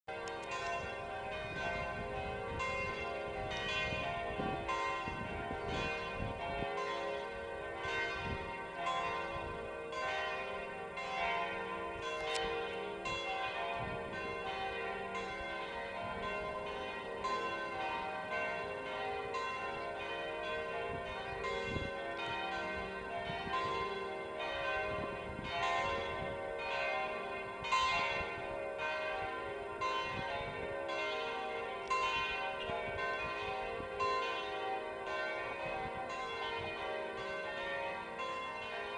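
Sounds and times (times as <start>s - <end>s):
church bells pealing: 0.1s - 38.9s.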